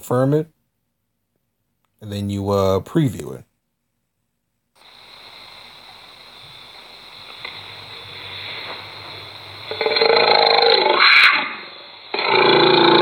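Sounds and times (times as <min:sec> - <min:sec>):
low hiss of room noise: 0:00.0 - 0:13.0.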